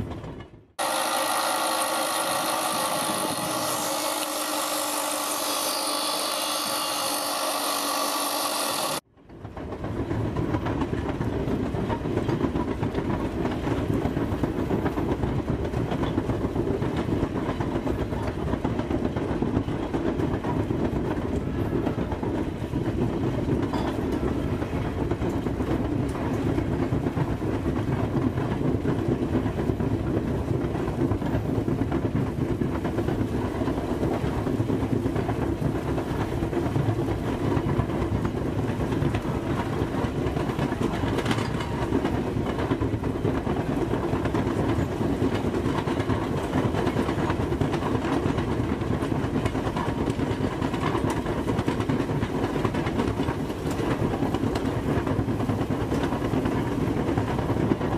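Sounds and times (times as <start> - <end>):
train rumbling on track: 0.0 - 57.9.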